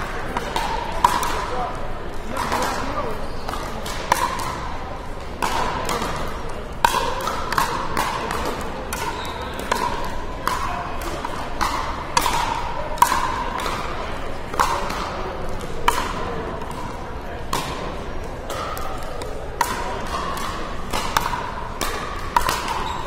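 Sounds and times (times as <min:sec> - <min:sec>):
paddles hitting plastic ball: 0:00.0 - 0:23.0.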